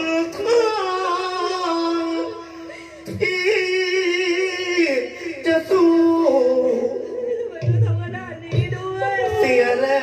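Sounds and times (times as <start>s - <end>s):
person singing into a microphone: 0.0s - 10.0s.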